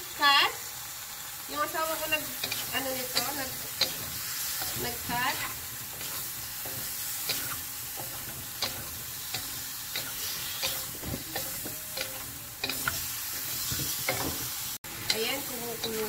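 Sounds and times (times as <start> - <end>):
food sizzling in a wok: 0.0 - 16.0
spatulas scraping wok: 1.5 - 16.0.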